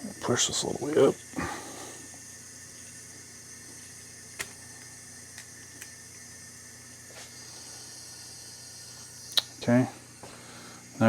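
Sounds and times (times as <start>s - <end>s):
faint hum and hiss: 0.0s - 11.0s.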